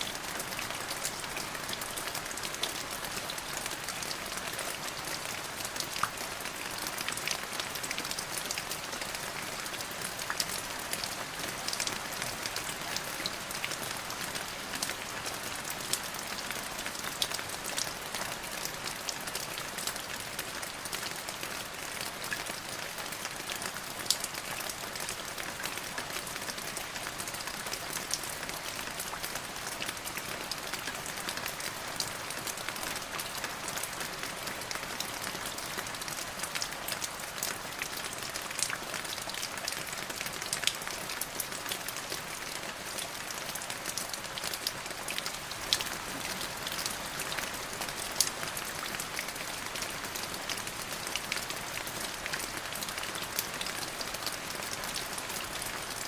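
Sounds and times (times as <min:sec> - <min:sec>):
rain drops hitting a surface: 0:00.0 - 0:56.0.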